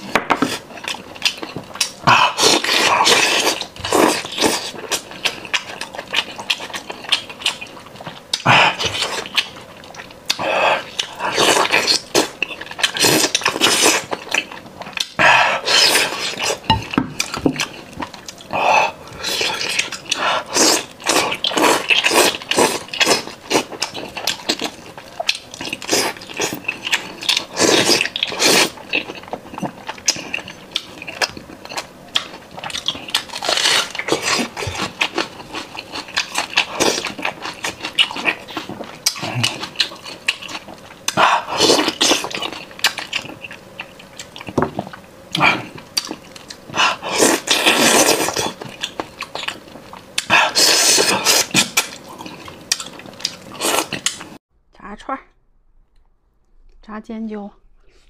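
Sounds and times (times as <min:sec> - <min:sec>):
person chewing and biting: 0:00.0 - 0:54.4.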